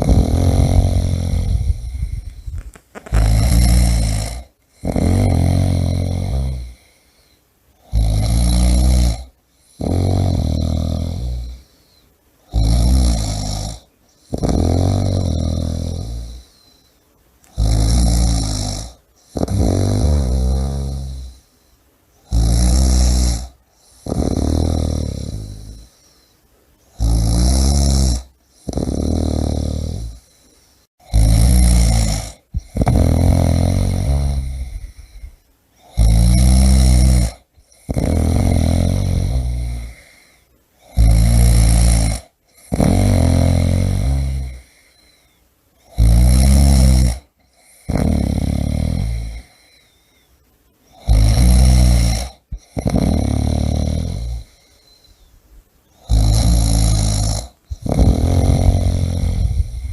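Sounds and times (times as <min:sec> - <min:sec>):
person snoring: 0:00.0 - 0:21.5, 0:22.2 - 0:26.3, 0:26.9 - 0:50.0, 0:50.9 - 0:55.2, 0:56.0 - 0:59.9.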